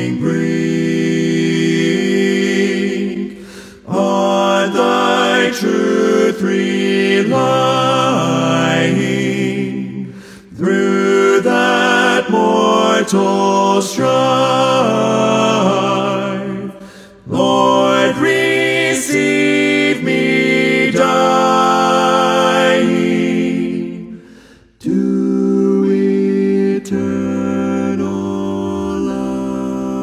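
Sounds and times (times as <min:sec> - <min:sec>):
male a cappella vocal harmony: 0:00.0 - 0:30.0.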